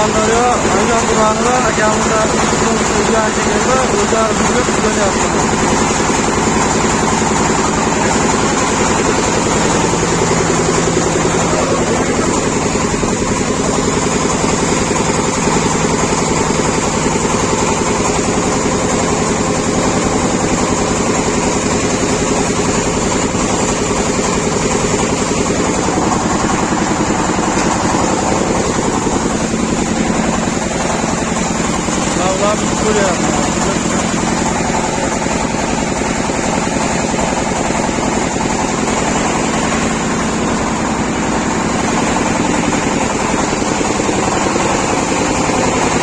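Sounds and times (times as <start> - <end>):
machine motor humming: 0.0 - 46.0.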